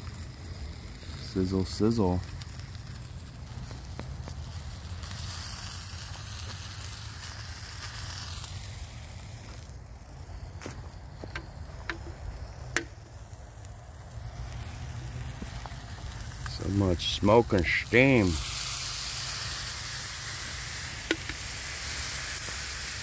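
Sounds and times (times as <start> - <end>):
sausages sizzling in pan: 0.0 - 23.0.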